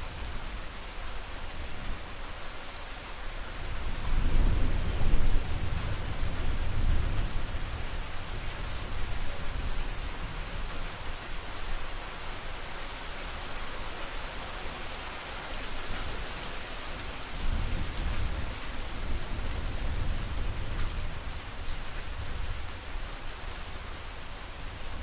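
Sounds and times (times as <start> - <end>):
rain hiss: 0.0 - 25.0.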